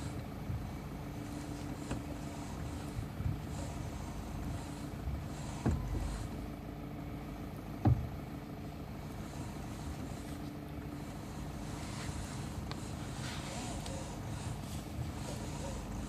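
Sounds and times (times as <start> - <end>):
engine knocks: 0.0 - 6.6, 7.2 - 16.0
vehicle engine running: 0.0 - 16.0.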